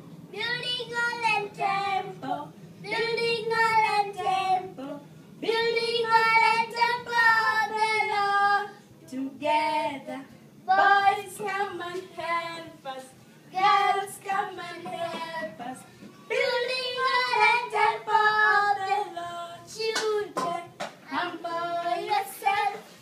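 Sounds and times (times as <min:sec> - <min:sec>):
woman and child singing: 0:00.3 - 0:22.9.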